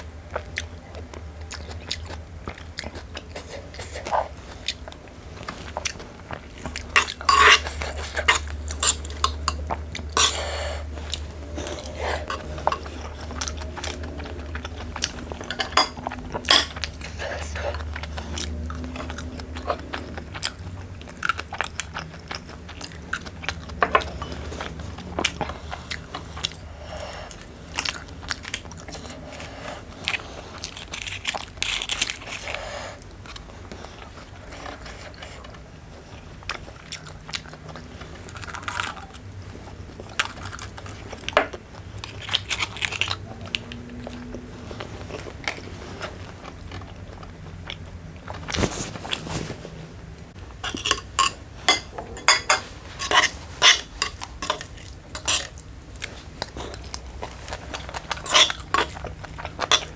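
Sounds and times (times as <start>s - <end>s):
crunchy chewing and biting: 0.3s - 49.5s.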